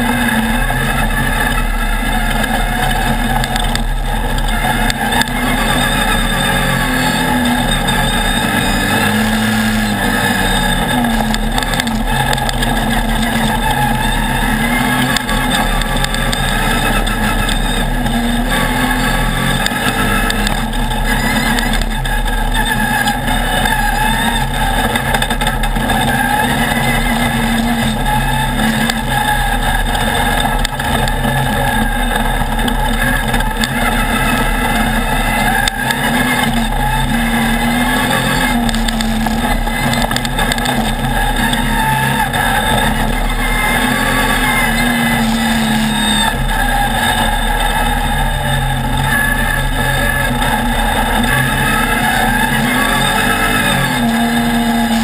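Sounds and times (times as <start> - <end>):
buggy engine running hard: 0.0 - 55.0.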